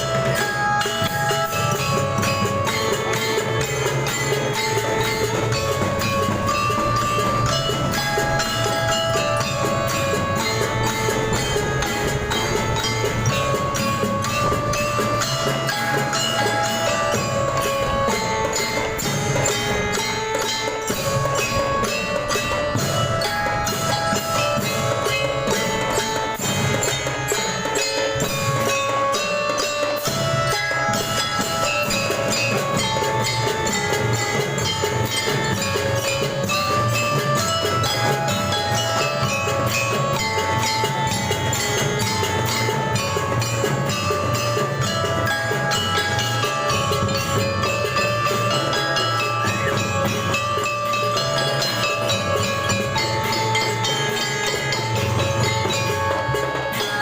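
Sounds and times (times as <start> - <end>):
glockenspiel melody: 0.0 - 57.0
marching drums beat: 0.0 - 57.0.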